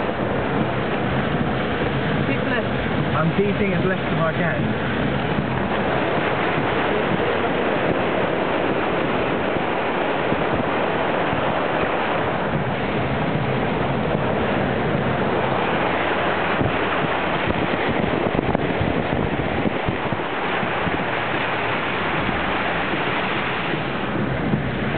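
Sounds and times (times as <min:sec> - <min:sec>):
water rushing around driving car: 0:00.0 - 0:24.9
water splashes: 0:00.0 - 0:24.9.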